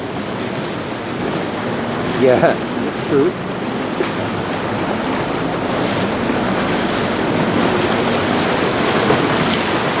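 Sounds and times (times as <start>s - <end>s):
open water washing: 0.0s - 10.0s
wind on microphone: 0.0s - 10.0s.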